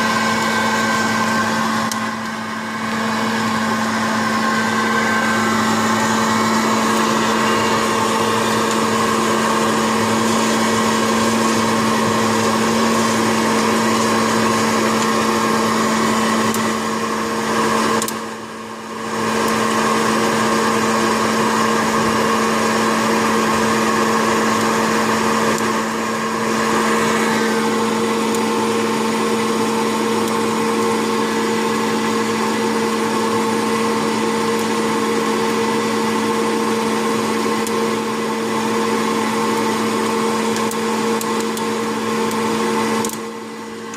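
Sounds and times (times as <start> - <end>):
small fan motors whirring: 0.0 - 43.9.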